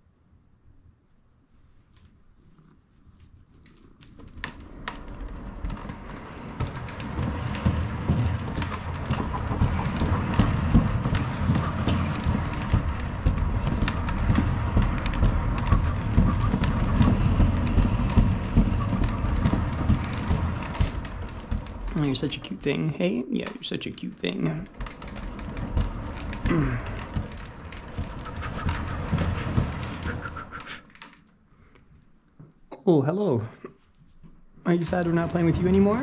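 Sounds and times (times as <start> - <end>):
exercise wheel rumbling and clicking: 3.6 - 33.4, 34.2 - 36.0.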